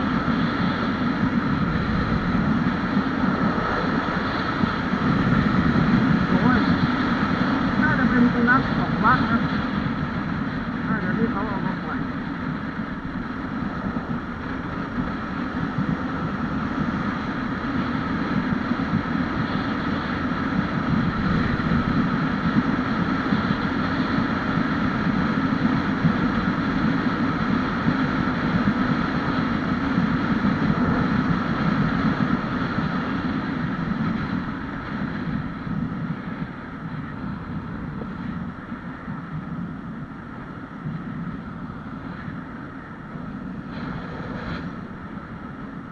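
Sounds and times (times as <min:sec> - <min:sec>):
wind on microphone: 0:00.0 - 0:45.9.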